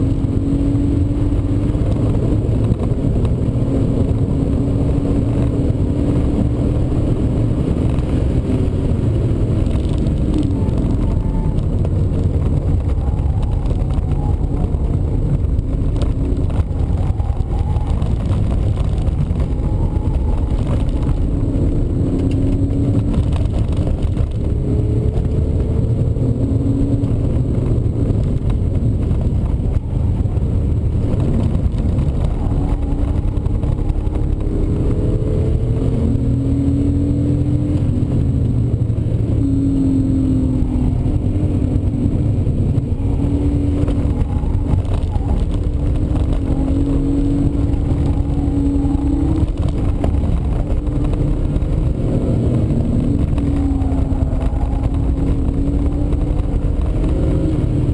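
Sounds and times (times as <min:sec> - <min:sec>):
car engine revving: 0:00.0 - 0:57.9
road and wind noise: 0:00.0 - 0:57.9.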